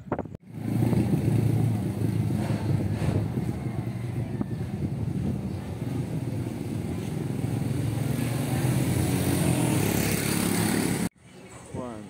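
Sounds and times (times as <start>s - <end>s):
motorcycle engine approaching: 0.0s - 11.1s.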